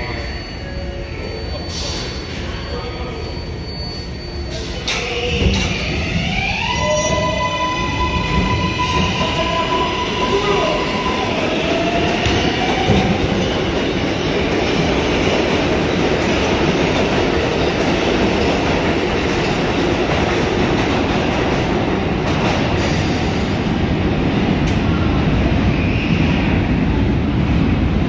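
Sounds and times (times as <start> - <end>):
train wheels rumbling on rails: 4.5 - 28.0.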